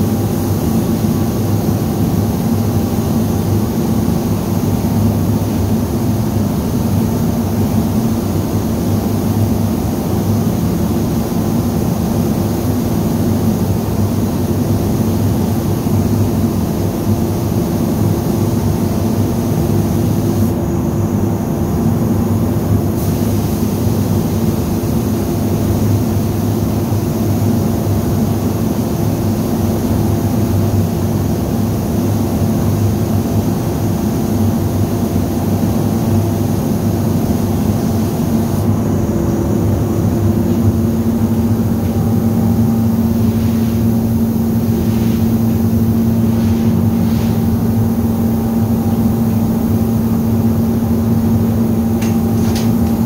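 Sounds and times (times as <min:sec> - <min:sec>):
spray gun air hiss: 0:00.0 - 0:20.6, 0:22.9 - 0:30.1, 0:31.1 - 0:53.0.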